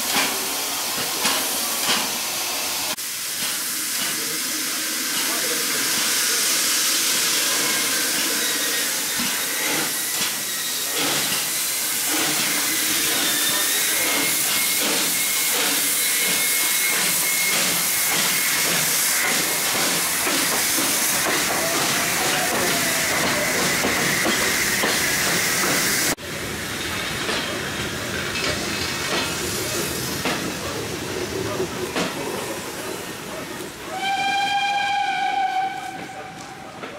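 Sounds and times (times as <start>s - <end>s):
steam locomotive hissing: 0.0s - 36.9s
train coaches passing: 0.0s - 36.9s.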